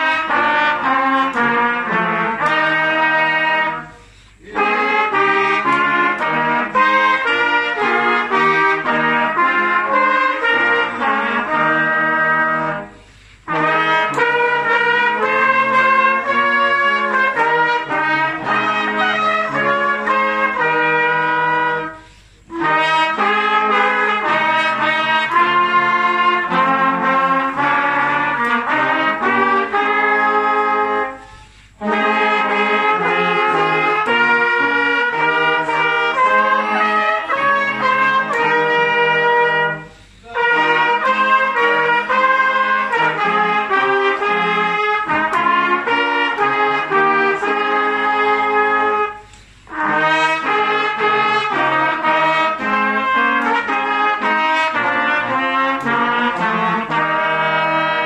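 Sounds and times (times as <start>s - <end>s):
brass band playing: 0.0s - 58.0s.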